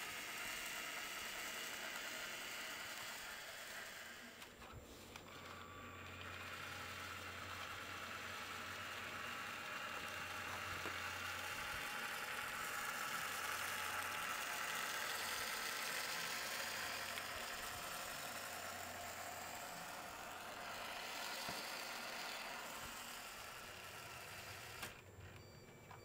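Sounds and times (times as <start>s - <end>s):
small motor and gears whirring: 0.0s - 26.0s.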